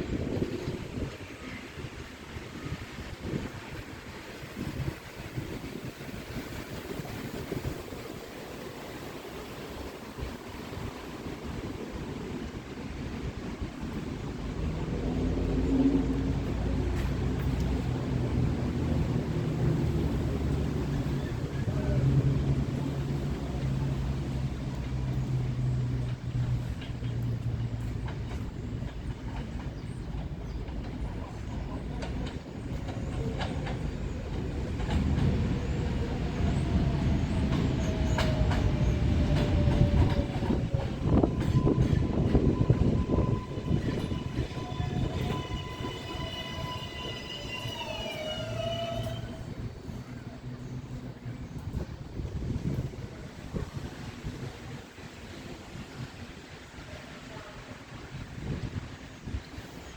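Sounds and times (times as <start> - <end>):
subway train wheels rumbling: 0.0 - 59.9.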